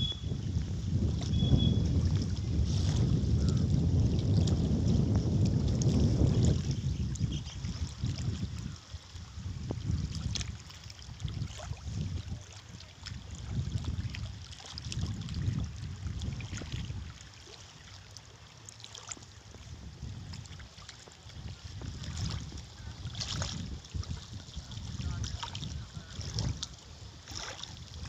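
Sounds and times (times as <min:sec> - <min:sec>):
wind buffeting microphone: 0:00.0 - 0:17.3, 0:19.5 - 0:28.0
water lapping and trickling: 0:00.0 - 0:28.0.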